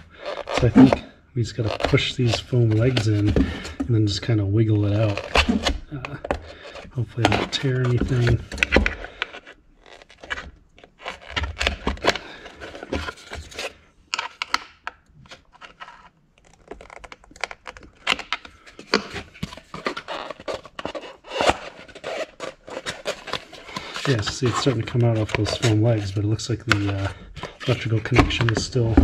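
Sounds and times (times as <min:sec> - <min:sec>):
plastic scraping and creaking: 0:00.0 - 0:29.0.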